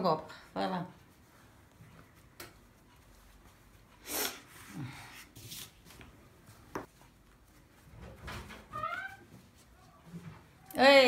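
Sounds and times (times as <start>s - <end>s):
hands working dough: 0.0s - 11.0s.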